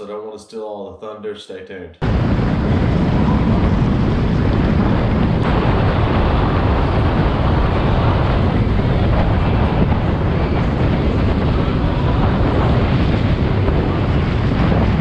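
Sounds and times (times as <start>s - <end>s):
water rushing along hull: 2.0s - 15.0s
wind buffeting microphone: 2.0s - 15.0s.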